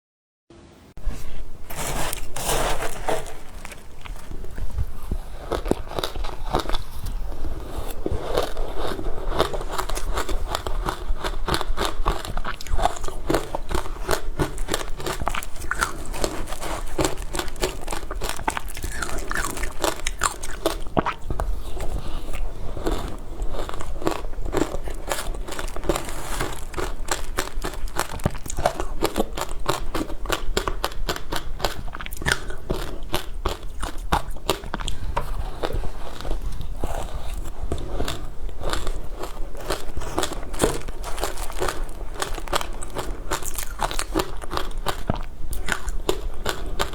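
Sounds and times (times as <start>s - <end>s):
crunching ice being chewed: 1.7s - 46.9s.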